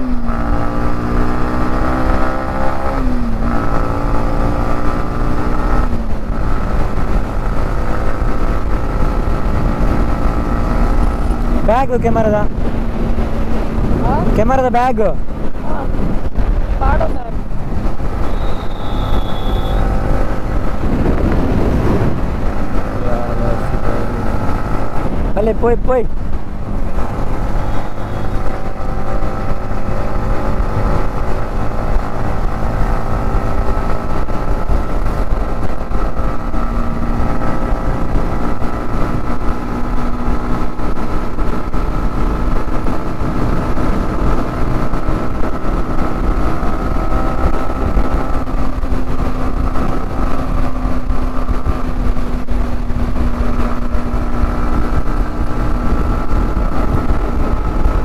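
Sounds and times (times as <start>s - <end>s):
motorcycle engine running: 0.0s - 58.0s
heavy low rumble: 4.9s - 58.0s.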